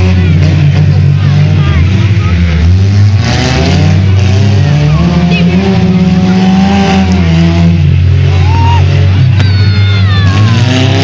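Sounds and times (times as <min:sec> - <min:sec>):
racing engines revving: 0:00.0 - 0:11.0.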